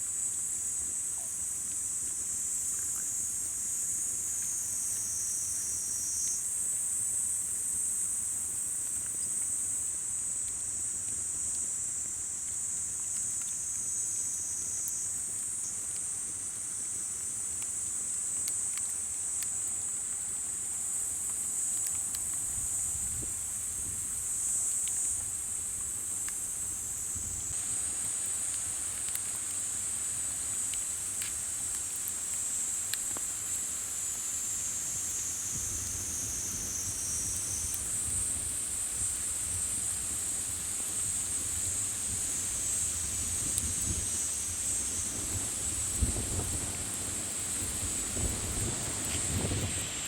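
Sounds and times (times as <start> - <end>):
crickets trilling: 0.0 - 50.0
campfire crackling: 6.9 - 50.0.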